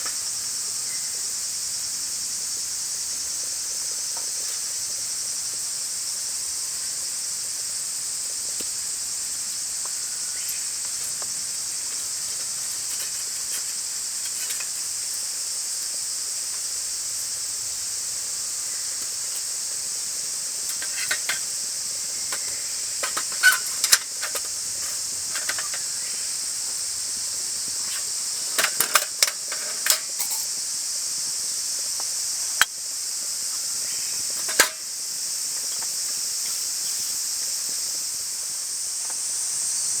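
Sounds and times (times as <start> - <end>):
insect chorus shrilling: 0.0 - 40.0.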